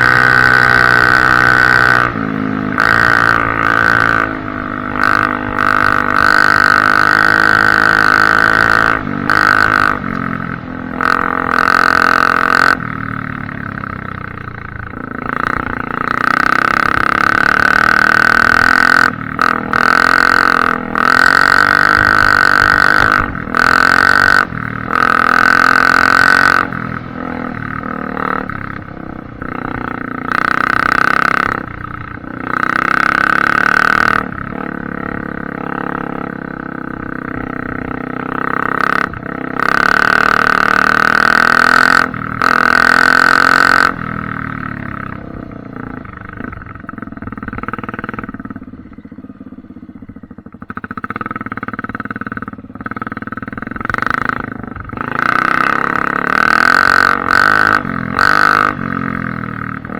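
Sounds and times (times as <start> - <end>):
dirt bike engine revving: 0.0 - 49.0, 50.1 - 59.9.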